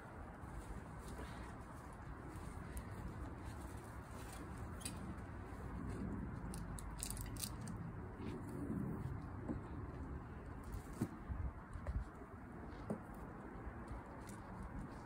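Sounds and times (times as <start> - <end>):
handling clicks and rustles: 0.4 - 15.0.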